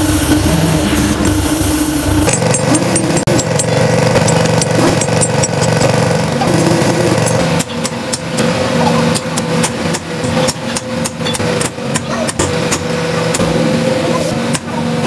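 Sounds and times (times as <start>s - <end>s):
hammer striking steel shaft: 0.0s - 13.6s
machine hum: 0.0s - 15.0s.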